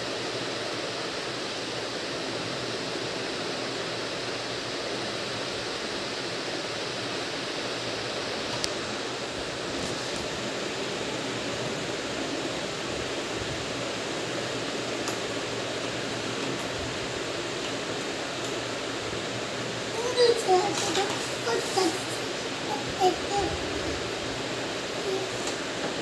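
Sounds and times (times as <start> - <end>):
fan-like rushing noise: 0.0 - 26.0.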